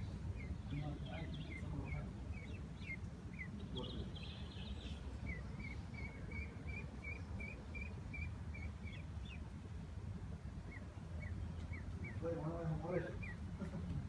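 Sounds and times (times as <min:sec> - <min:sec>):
bird chirping: 0:00.0 - 0:09.6, 0:10.4 - 0:13.8
low steady rumble: 0:00.0 - 0:14.0.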